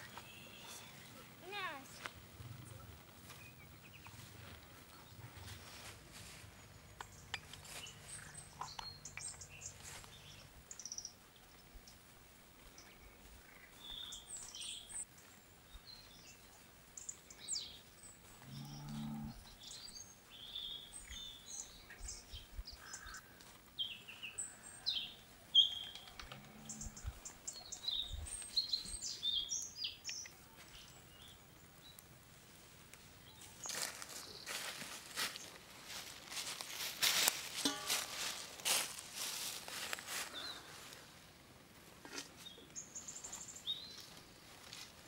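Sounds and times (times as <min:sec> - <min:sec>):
songbirds chirping: 0:00.0 - 0:45.0.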